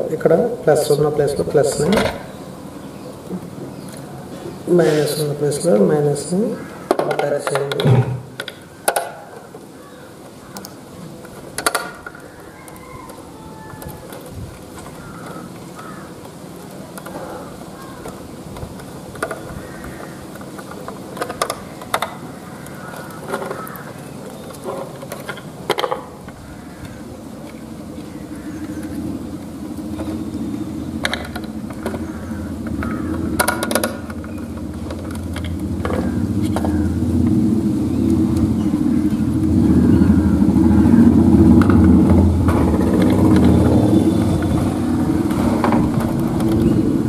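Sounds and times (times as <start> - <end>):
vehicle engine rumble: 0.0 - 47.0.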